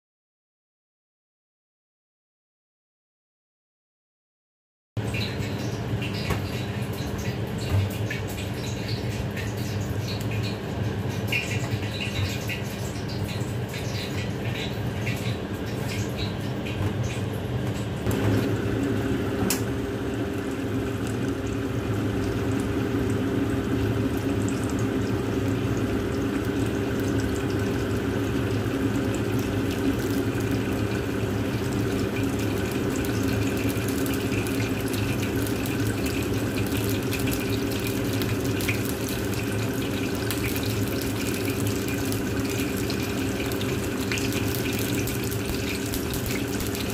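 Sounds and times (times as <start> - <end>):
chicken sizzling in oil: 5.0 - 46.9.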